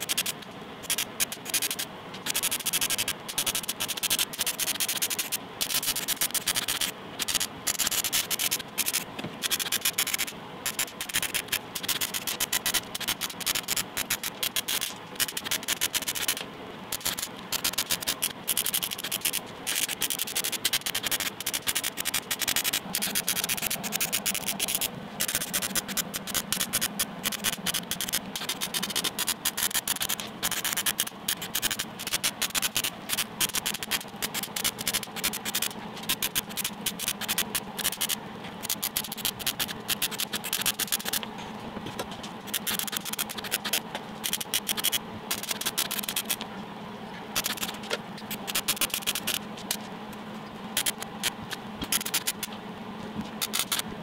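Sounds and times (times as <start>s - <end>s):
welder crackling: 0.0s - 41.3s, 42.0s - 46.4s, 47.4s - 49.8s, 50.8s - 52.5s, 53.3s - 53.8s.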